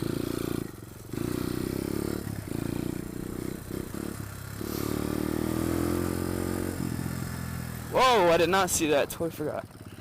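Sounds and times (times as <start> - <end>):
pit bike engine: 0.0 - 10.0.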